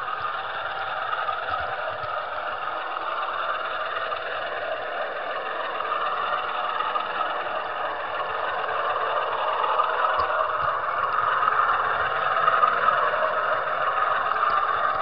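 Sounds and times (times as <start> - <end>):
model train wheels on rails: 0.0 - 15.0
small electric motor: 0.0 - 15.0.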